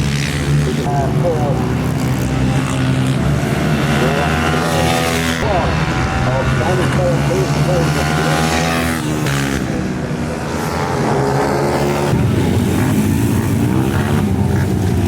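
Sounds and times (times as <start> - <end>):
minibike engines racing: 0.0 - 15.0.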